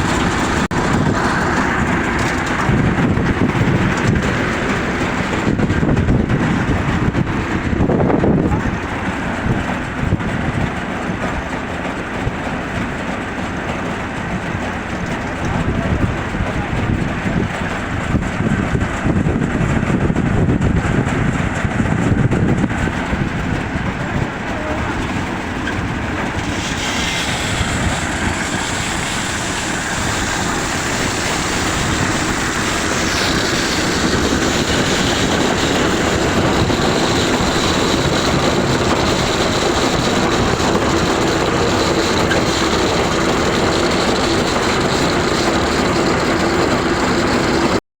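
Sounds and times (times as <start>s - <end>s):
threshing machine running: 0.0s - 47.8s.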